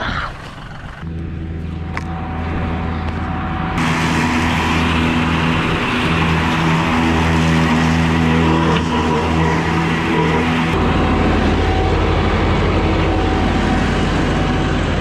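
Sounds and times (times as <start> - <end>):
tractor diesel engine running: 0.0 - 15.0
rotary cutter mowing grass: 1.0 - 15.0.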